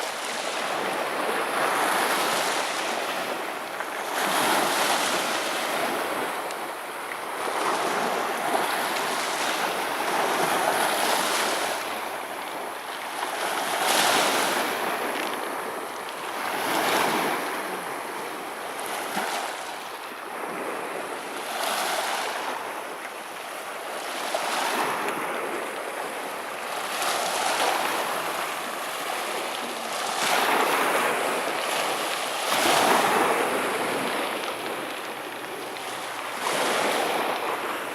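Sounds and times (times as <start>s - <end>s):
sea waves breaking on shore: 0.0s - 37.9s.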